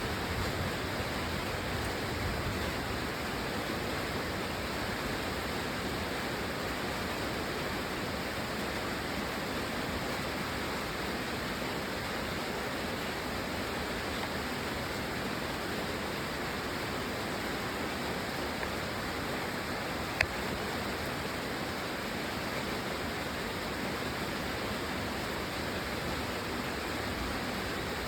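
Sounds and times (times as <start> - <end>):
heavy rain: 0.0 - 28.0.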